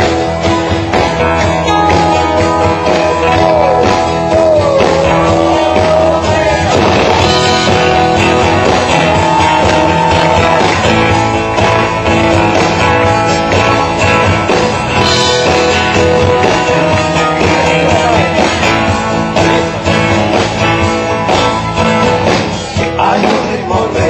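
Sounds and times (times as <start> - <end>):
guitar: 0.0 - 24.0
live rock band playing: 0.0 - 24.0
drum hits: 3.1 - 23.6.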